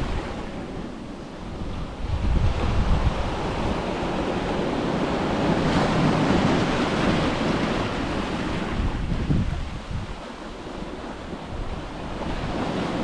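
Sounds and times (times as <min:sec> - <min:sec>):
ocean waves breaking on beach: 0:00.0 - 0:13.0
wind rumble on microphone: 0:00.0 - 0:13.0.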